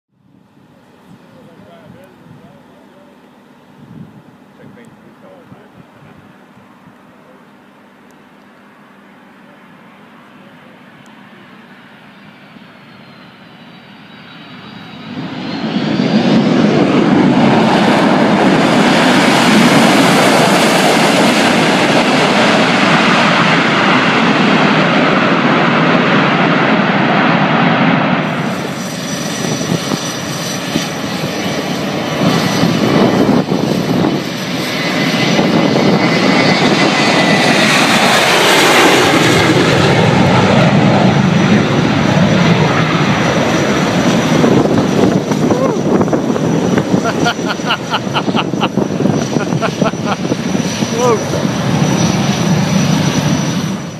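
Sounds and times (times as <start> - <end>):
jet engines roaring: 0.2 - 53.9.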